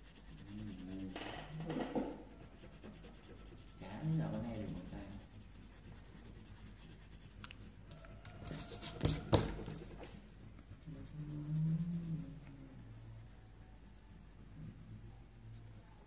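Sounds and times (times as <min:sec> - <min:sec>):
pencil scratching on paper: 0:00.0 - 0:16.0.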